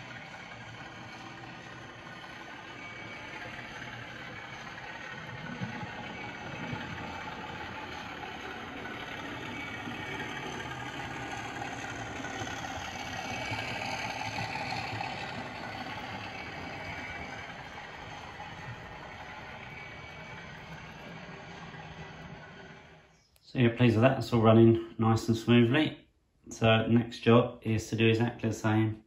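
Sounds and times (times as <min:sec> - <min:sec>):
model train motor hum: 0:00.0 - 0:23.3
model train wheel rumble: 0:00.0 - 0:25.7.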